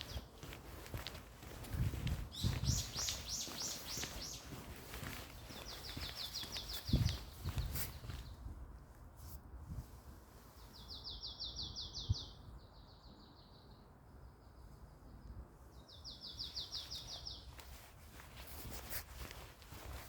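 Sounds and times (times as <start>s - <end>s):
songbird singing: 0.0s - 8.5s, 10.5s - 18.2s.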